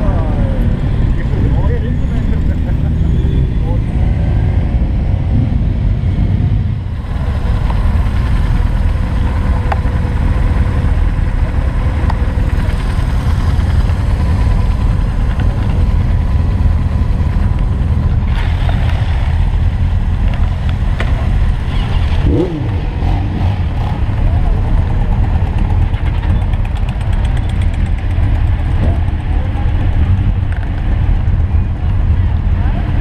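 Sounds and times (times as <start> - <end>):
motorcycle engines rumbling: 0.0 - 33.0.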